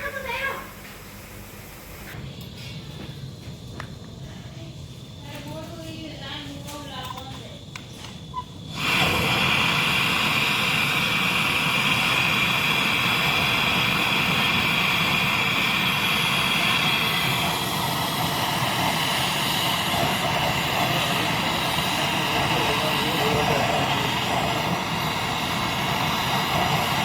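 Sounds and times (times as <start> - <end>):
gas hissing under pressure: 0.0 - 27.0.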